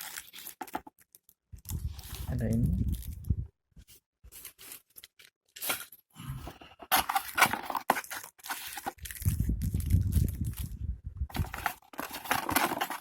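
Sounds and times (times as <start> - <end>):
packaging rustling and tearing: 0.0 - 3.3, 4.3 - 6.0, 6.6 - 13.0.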